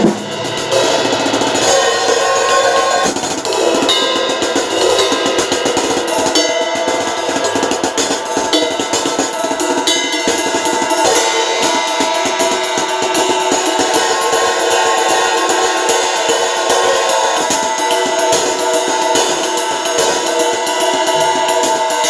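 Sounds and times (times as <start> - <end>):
drum kit playing: 0.0 - 22.0
sustained pitched instruments: 0.0 - 22.0.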